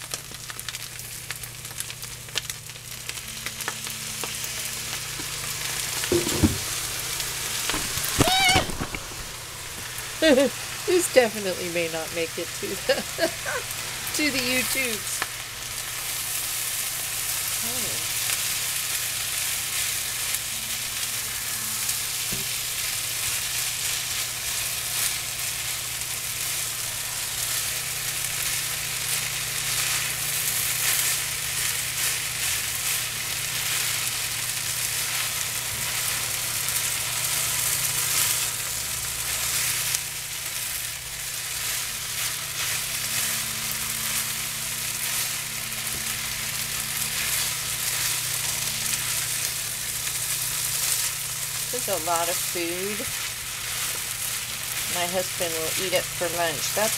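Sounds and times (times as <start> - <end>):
rice sizzling in a frying pan: 0.0 - 56.9
utensil stirring in pan: 9.1 - 56.9.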